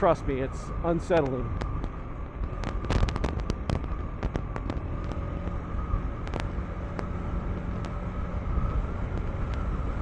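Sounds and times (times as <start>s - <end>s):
wind rush: 0.0s - 10.0s.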